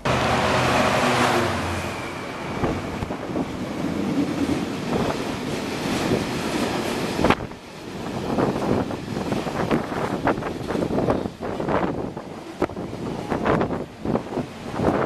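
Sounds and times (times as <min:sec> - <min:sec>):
locomotive engine passing: 0:00.0 - 0:15.0
wind buffeting microphone: 0:02.4 - 0:15.0.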